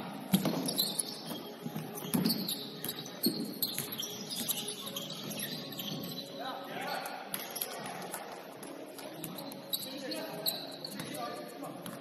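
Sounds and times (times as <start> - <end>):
sneakers squeaking on court: 0.3 - 8.1, 8.9 - 12.0.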